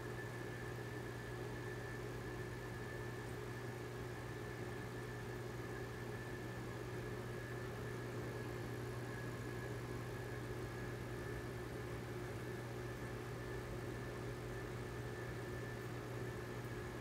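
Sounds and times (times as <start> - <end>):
aquarium pump hum: 0.0 - 17.0.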